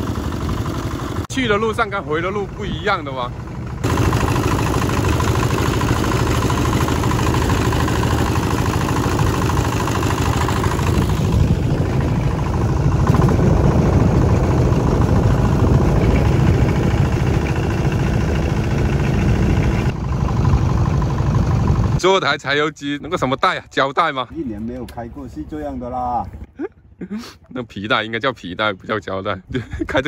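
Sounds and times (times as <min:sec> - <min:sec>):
boat diesel engine drone: 0:00.0 - 0:29.4.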